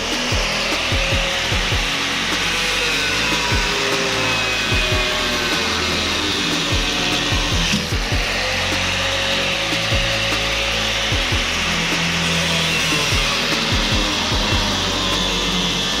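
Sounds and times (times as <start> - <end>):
angle grinder cutting steel: 0.0 - 16.0.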